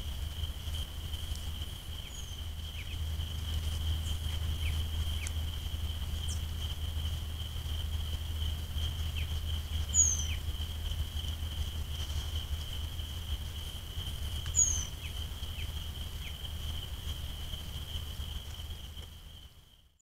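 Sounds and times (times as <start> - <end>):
low rumble: 0.0 - 19.6
insect high-pitched call: 0.0 - 19.8
birds chirping: 0.6 - 18.0.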